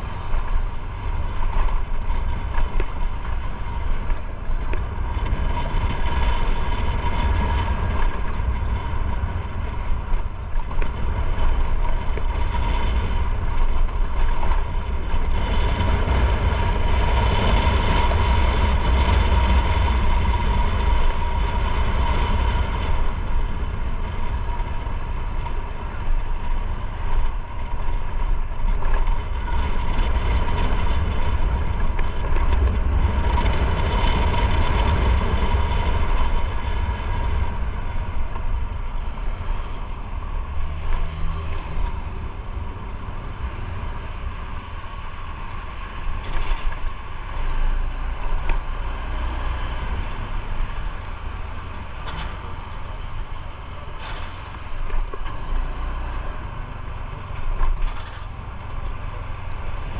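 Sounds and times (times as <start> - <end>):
constant high whine: 0.0 - 59.9
motorcycle engine and road noise: 0.0 - 59.9.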